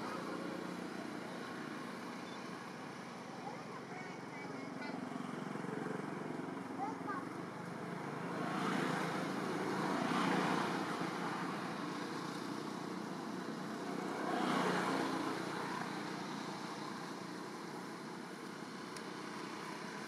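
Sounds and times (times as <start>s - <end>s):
vehicles passing: 0.0s - 20.0s.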